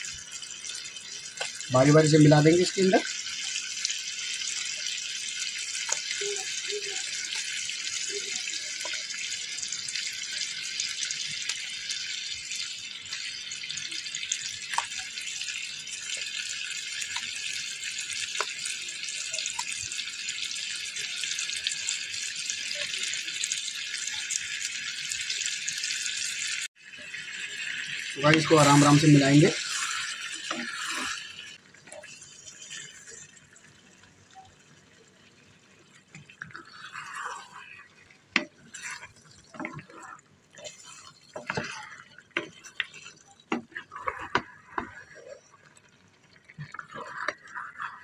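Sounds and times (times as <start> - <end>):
meat sizzling in a frying pan: 0.0 - 48.0.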